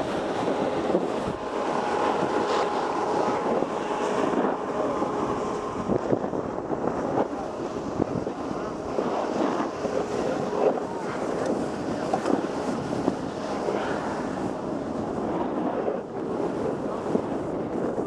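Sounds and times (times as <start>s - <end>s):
wind on camera microphone: 0.0s - 18.0s.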